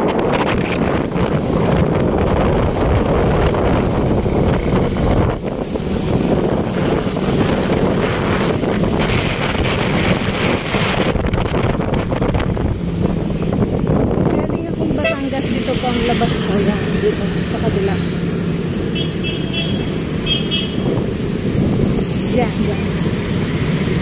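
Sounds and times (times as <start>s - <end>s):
motorcycle engine: 0.0s - 24.0s
road noise: 0.0s - 24.0s
wind rushing over microphone: 0.0s - 24.0s.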